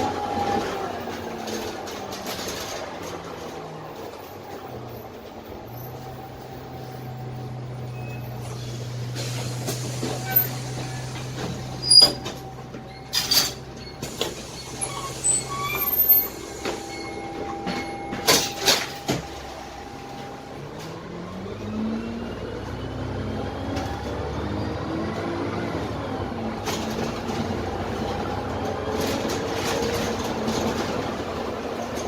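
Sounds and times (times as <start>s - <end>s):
bus diesel engine: 0.0s - 32.0s.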